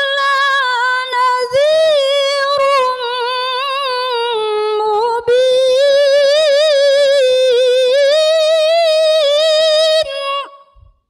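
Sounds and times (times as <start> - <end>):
woman reciting melodically: 0.0 - 10.9.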